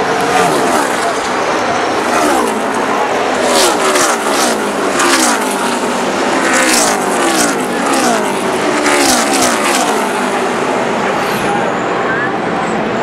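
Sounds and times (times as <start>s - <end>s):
race cars passing at speed: 0.0s - 13.0s.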